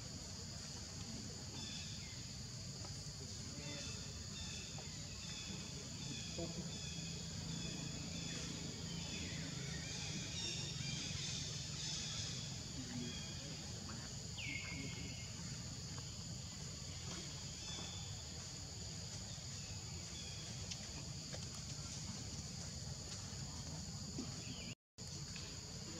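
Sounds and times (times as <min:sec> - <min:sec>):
high-pitched insect chorus: 0:00.0 - 0:25.9.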